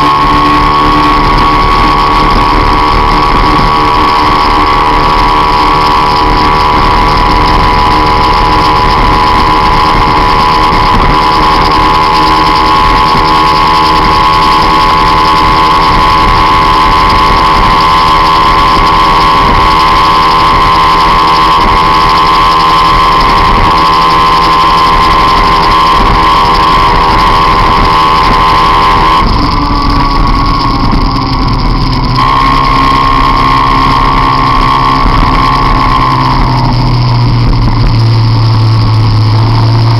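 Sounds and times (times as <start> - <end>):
scooter engine at high revs: 0.0 - 39.9.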